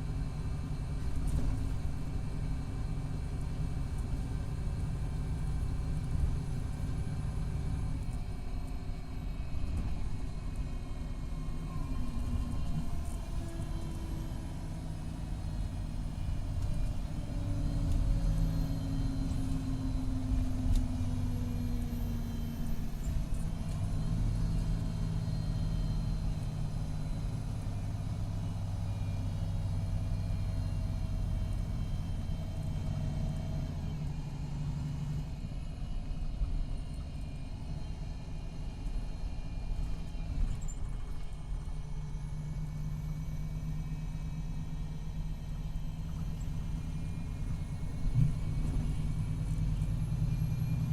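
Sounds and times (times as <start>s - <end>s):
diesel bus engine rumbling: 0.0s - 50.9s.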